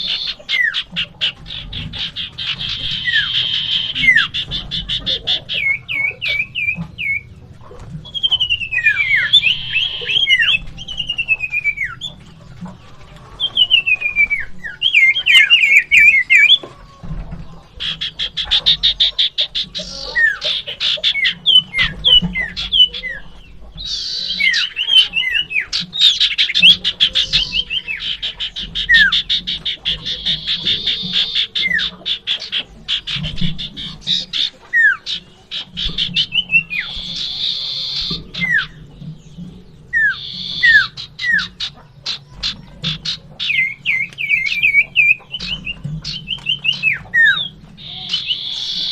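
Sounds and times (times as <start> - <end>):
bird singing whistles and trills: 0.0 - 7.3, 8.0 - 12.3, 13.4 - 16.7, 17.8 - 48.9.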